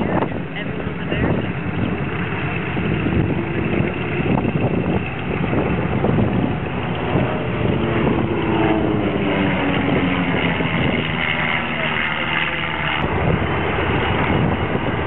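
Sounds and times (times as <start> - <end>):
propeller rumble: 0.0 - 15.0
twin radial engines running: 0.0 - 15.0.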